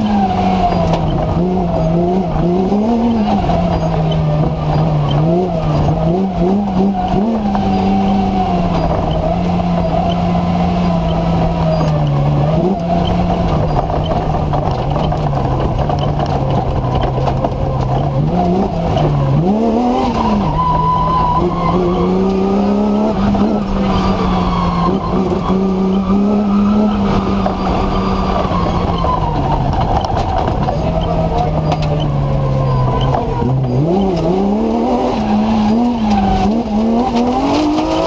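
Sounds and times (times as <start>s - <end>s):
race car engine running hard: 0.0s - 38.0s.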